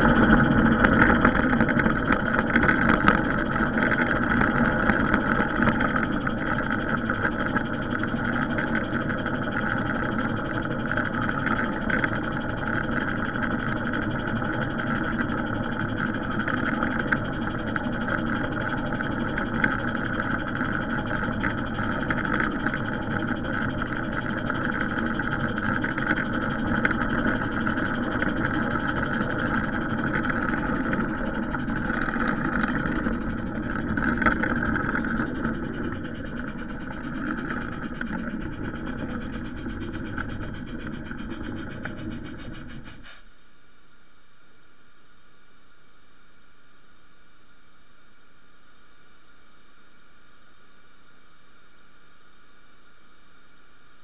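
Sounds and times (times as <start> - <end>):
model train running on rails: 0.0 - 43.2.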